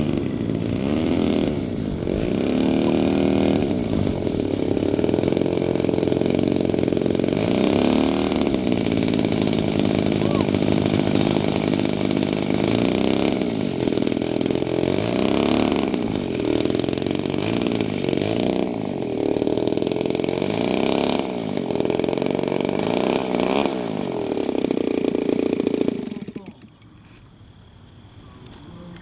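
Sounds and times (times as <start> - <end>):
model airplane engine revving: 0.0 - 26.9.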